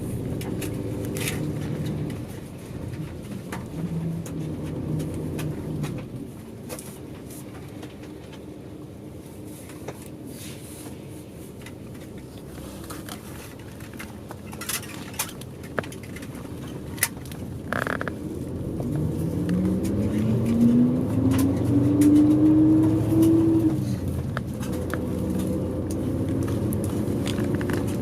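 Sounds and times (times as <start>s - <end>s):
bodywork clicks and rattles: 0.0s - 8.6s, 11.6s - 28.0s
bus engine droning hum: 0.0s - 28.0s.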